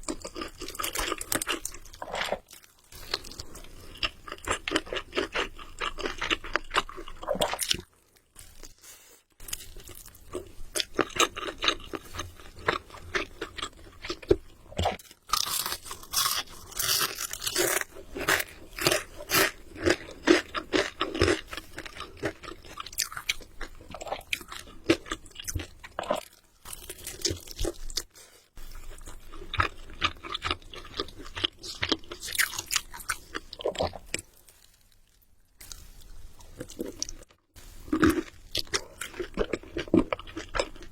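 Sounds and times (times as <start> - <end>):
crunching and chewing fried chicken: 0.0 - 35.8, 36.4 - 40.9.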